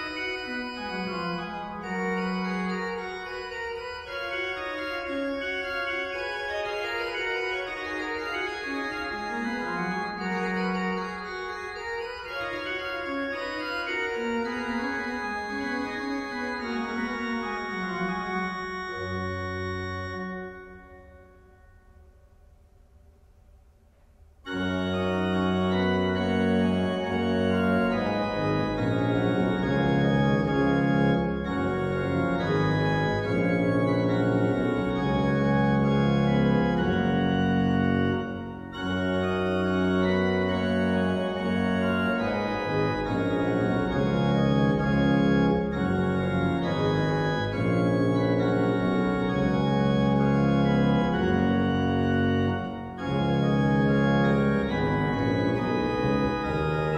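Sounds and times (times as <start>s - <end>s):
pipe organ playing: 0.0s - 22.3s, 24.4s - 56.9s.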